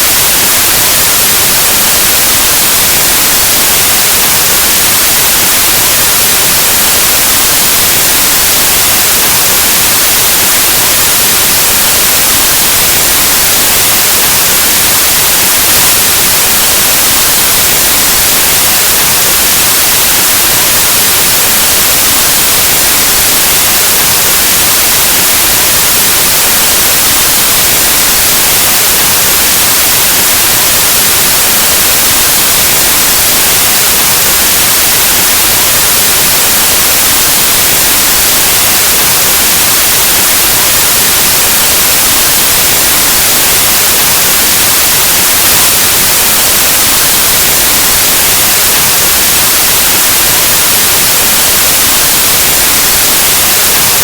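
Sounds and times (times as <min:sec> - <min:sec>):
white noise static hiss: 0:00.0 - 0:54.0.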